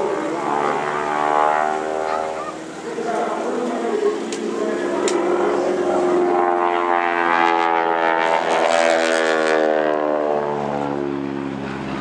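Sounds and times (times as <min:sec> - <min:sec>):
propeller plane flying by: 0:00.0 - 0:12.0.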